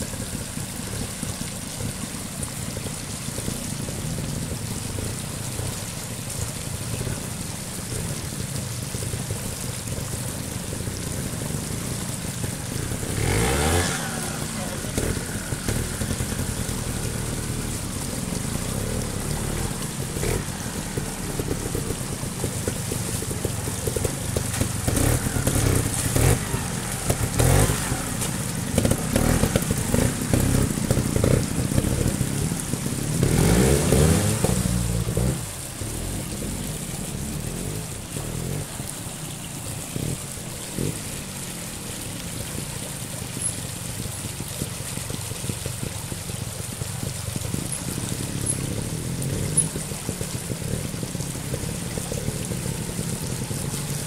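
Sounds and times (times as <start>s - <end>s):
running stream water: 0.0s - 54.0s
motorcycle engine revving: 7.8s - 54.0s.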